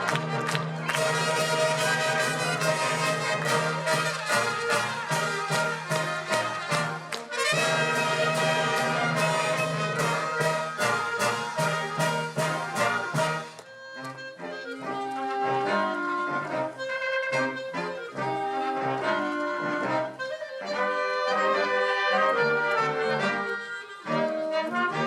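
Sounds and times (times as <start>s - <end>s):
brass wind band music: 0.0s - 25.0s.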